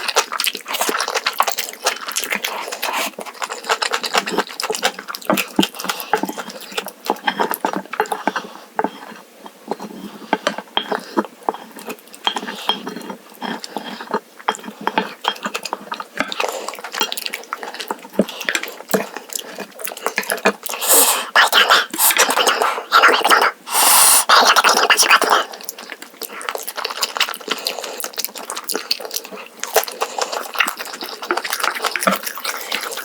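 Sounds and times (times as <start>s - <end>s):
chewing: 0.0s - 33.0s.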